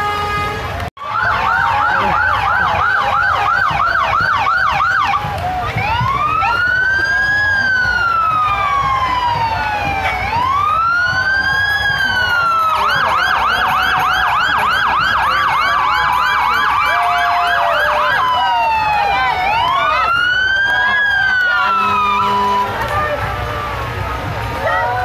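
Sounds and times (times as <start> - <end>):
electronic siren wail and yelp: 1.0 - 22.8.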